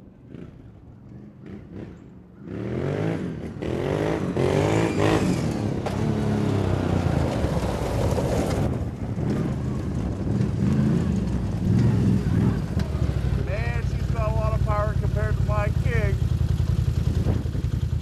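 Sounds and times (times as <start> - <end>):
quad engine accelerating: 0.1 - 18.0.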